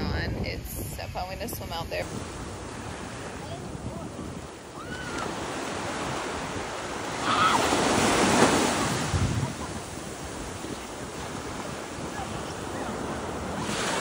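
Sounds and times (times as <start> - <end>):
sea surf washing: 0.0 - 14.0
wind buffeting microphone: 0.0 - 14.0.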